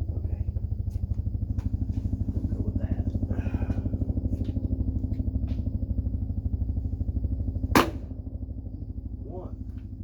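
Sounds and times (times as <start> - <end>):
low pulsing engine drone: 0.0 - 10.0.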